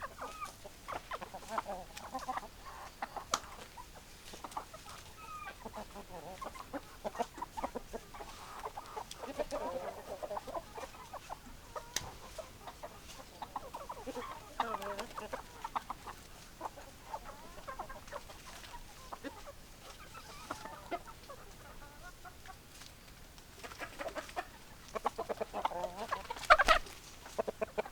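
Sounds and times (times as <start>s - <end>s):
hens clucking: 0.0s - 27.9s.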